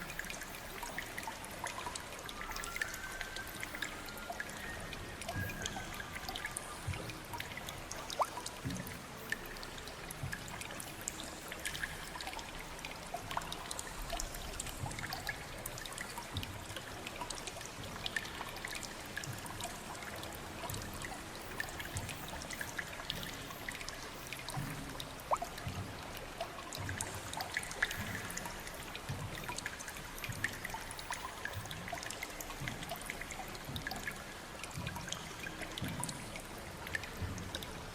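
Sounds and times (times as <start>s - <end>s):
water drips: 0.0s - 37.9s
water trickling and splashing: 0.0s - 37.9s.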